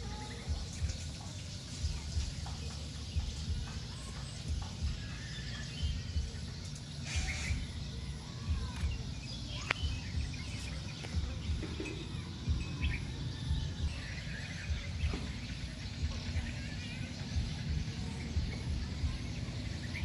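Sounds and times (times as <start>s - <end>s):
faint bird chirps: 0.0s - 20.0s
low rumble on microphone: 0.0s - 20.0s.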